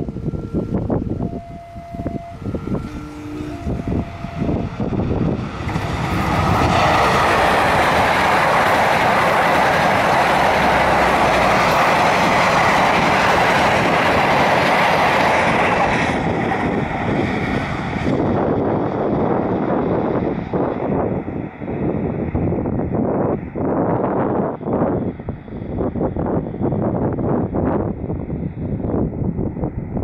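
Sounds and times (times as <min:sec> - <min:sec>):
train rushing past: 0:00.0 - 0:30.0.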